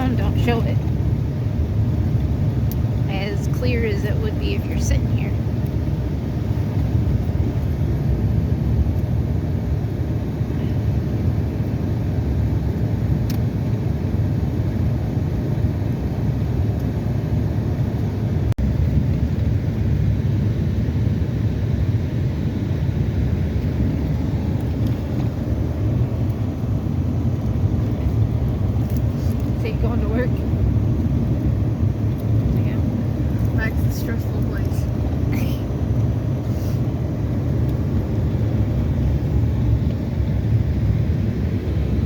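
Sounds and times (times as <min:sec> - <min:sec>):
road and engine rumble in car: 0:00.0 - 0:42.0.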